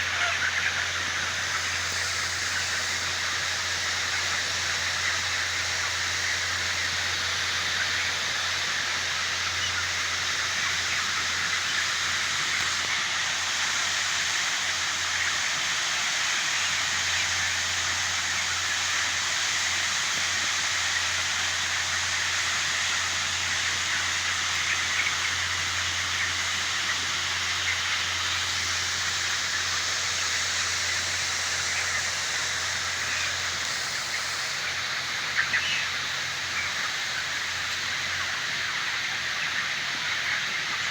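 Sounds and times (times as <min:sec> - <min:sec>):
chickens chattering: 0:00.0 - 0:40.9.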